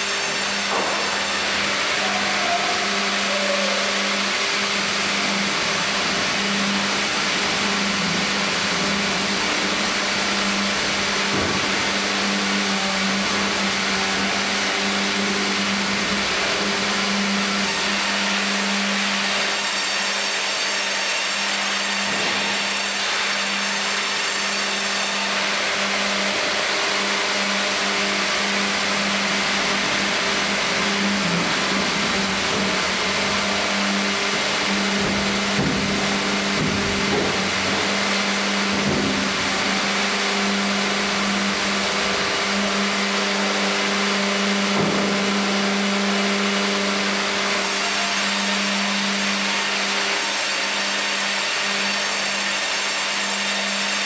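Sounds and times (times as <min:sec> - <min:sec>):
band saw machine hum: 0:00.0 - 0:54.0.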